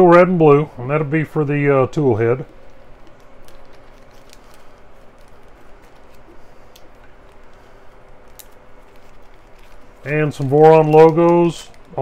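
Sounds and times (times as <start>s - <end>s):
low background hum: 0.0s - 12.0s
plastic bag crinkling: 2.2s - 12.0s.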